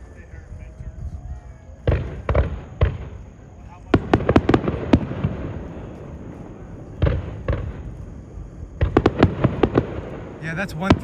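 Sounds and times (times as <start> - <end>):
fireworks banging: 1.8 - 11.0.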